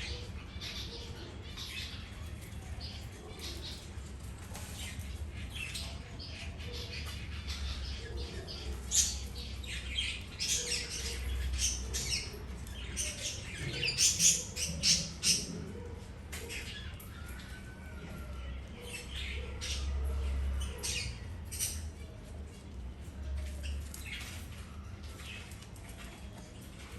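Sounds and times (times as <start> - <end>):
birds chirping and squawking: 0.0 - 26.9.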